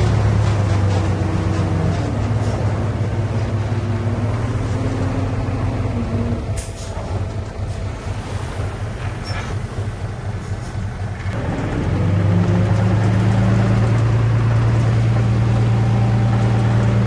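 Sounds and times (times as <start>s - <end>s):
diesel earthmover engine running: 0.0s - 17.0s.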